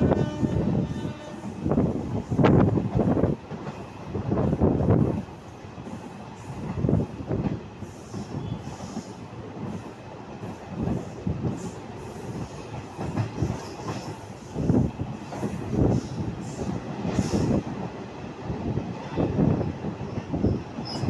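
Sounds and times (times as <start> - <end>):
train wheels rumbling and clacking: 0.0 - 21.0.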